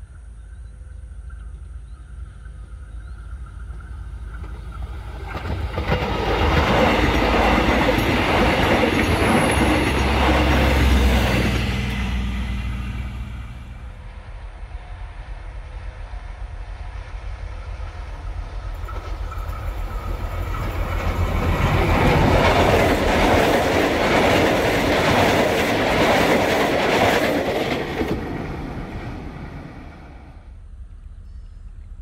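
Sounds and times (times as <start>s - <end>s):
train passing with wheel clatter: 0.8s - 31.2s.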